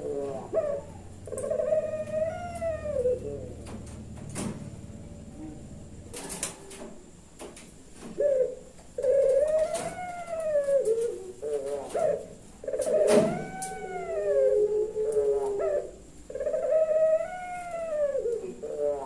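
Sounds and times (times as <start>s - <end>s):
dove cooing: 0.0s - 7.2s, 7.9s - 19.0s.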